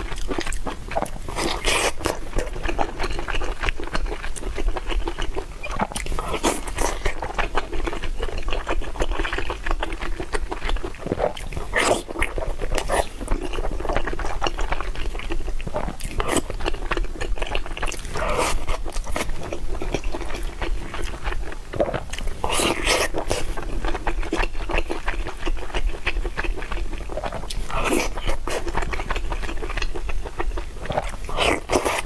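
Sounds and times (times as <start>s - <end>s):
wet chewing and slurping: 0.0s - 32.0s.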